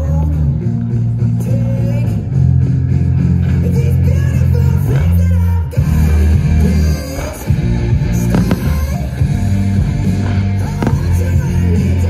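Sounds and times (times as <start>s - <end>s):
song with guitar and bass: 0.0s - 12.0s.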